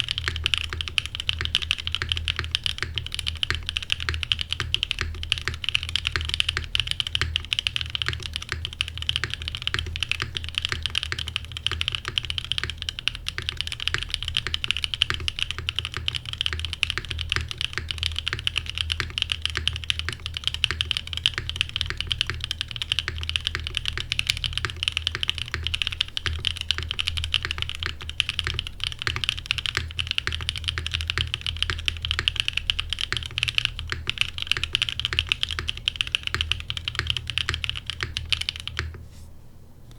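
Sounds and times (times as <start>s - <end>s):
mechanical keyboard typing: 0.0s - 39.0s.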